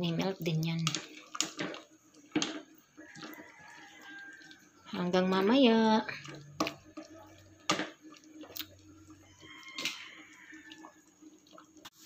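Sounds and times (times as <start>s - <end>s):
stew bubbling with pops: 0.0s - 12.0s.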